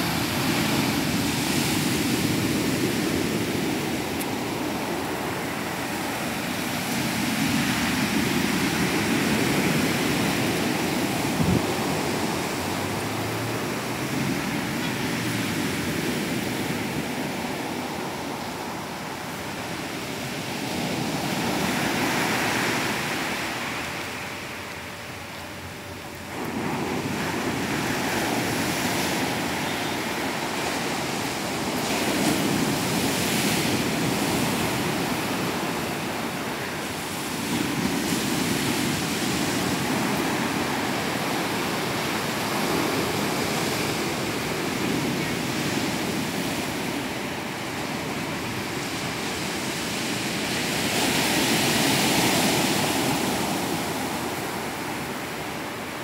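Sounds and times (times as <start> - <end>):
heavy surf crashing on beach: 0.0 - 56.0.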